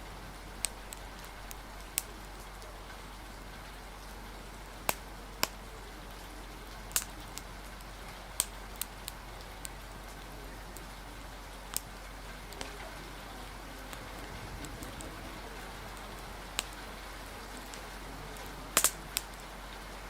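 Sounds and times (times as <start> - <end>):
steady rain: 0.0 - 20.0
wood fire popping and crackling: 0.0 - 20.0.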